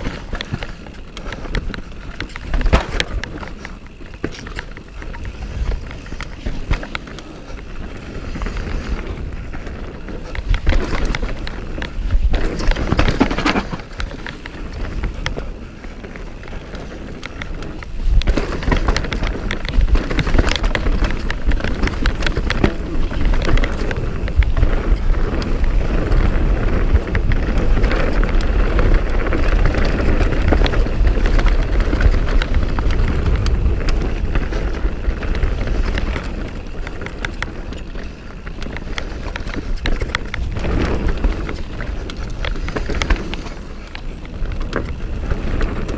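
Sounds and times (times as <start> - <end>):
bike chain and frame rattling: 0.0 - 45.9
bike tyres rolling over dirt: 0.0 - 45.9
wind rumbling on microphone: 0.0 - 45.9.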